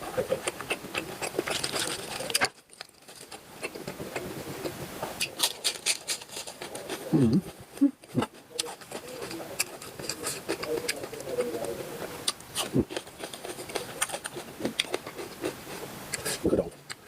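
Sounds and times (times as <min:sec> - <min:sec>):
wet chewing and mouth clicks: 0:00.0 - 0:17.0.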